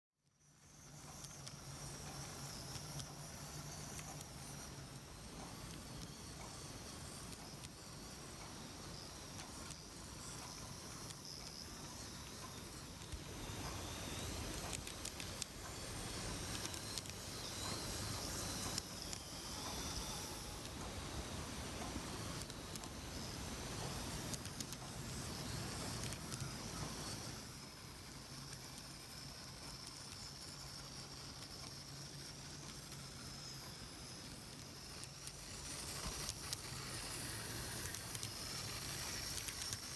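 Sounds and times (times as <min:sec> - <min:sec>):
model tram motor whirring: 0:00.5 - 0:39.9.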